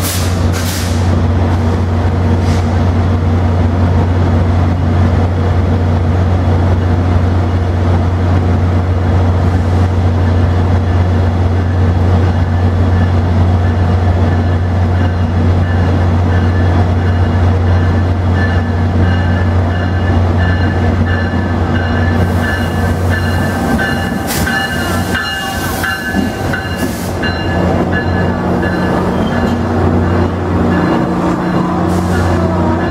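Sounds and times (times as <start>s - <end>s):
diesel locomotive engine drone: 0.0s - 32.9s.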